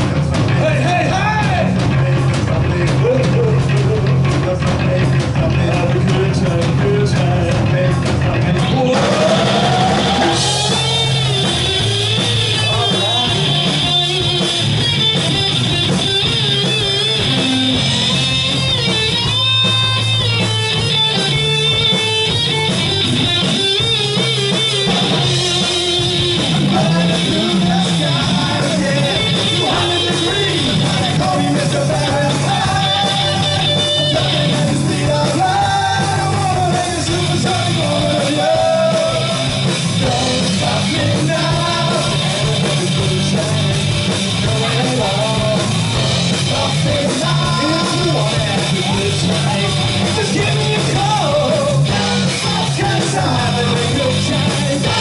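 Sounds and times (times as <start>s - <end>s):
punk rock band playing: 0.0s - 55.0s
man singing: 0.4s - 15.2s, 25.2s - 55.0s.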